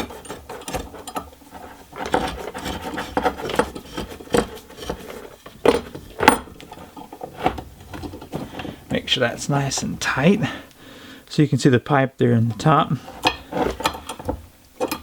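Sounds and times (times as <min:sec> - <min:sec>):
metal scraping and rattling: 0:00.0 - 0:10.6, 0:12.4 - 0:15.0.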